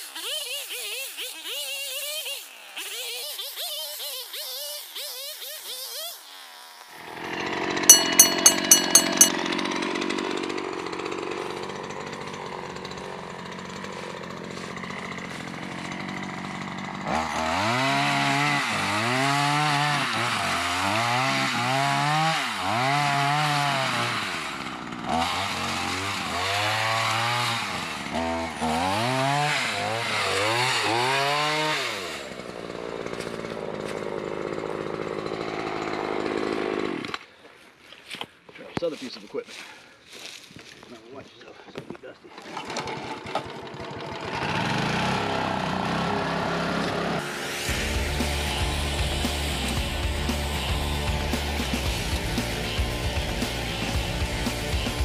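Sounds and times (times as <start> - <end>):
chainsaw engine revving: 0.0 - 37.2, 42.2 - 55.0.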